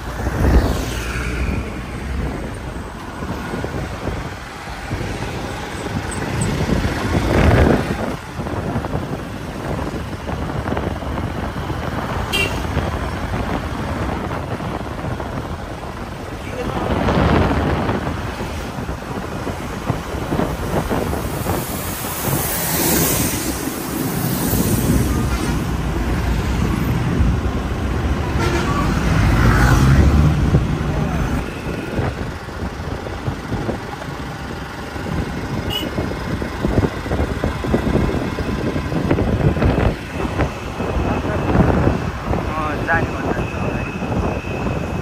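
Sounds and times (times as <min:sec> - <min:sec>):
vehicle engine and road rumble: 0:00.0 - 0:45.0
wind on microphone: 0:00.0 - 0:45.0.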